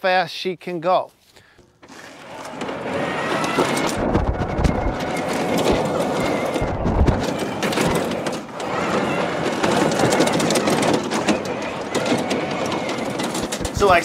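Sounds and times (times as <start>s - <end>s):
electric drive motors running: 1.6s - 14.0s
tires crunching gravel: 1.9s - 14.0s.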